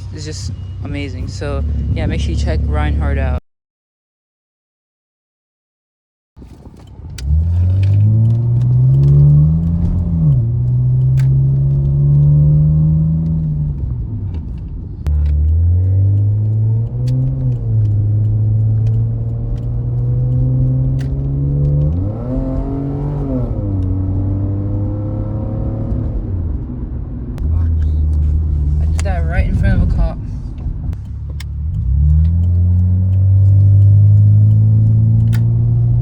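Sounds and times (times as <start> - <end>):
car engine revving while driving: 0.0 - 3.4, 6.6 - 36.0.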